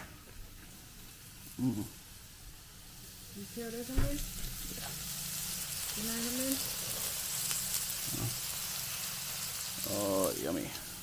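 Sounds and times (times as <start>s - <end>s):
meat sizzling on a grill: 0.4s - 11.0s.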